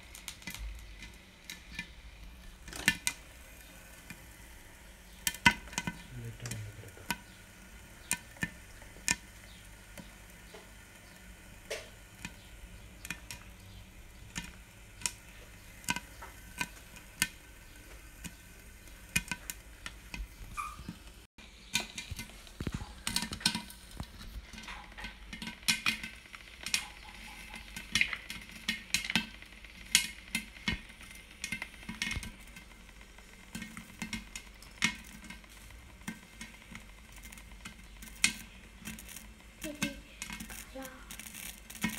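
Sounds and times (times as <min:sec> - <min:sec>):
faint sizzle: 0:00.0 - 0:41.9
popcorn popping: 0:00.0 - 0:41.9.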